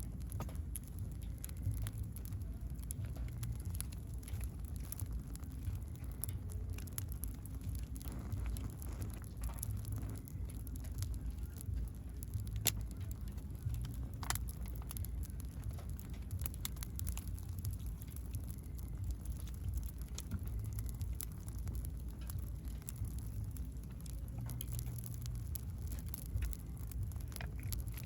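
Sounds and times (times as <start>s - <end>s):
firewood crackling and popping: 0.0s - 28.0s.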